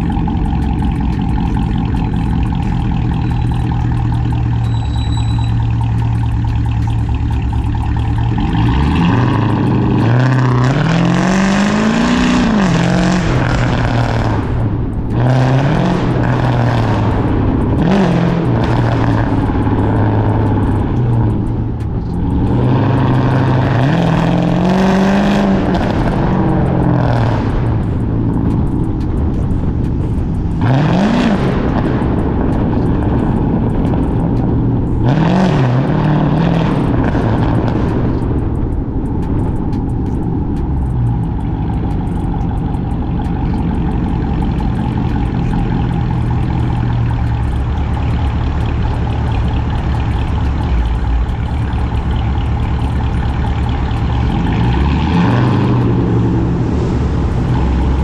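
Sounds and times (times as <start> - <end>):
car exhaust revving: 0.0 - 58.0.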